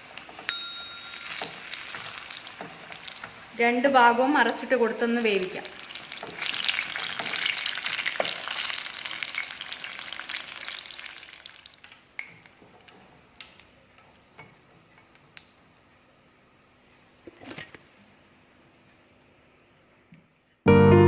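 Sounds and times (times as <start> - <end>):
chillies deep-frying in oil: 0.0 - 18.9.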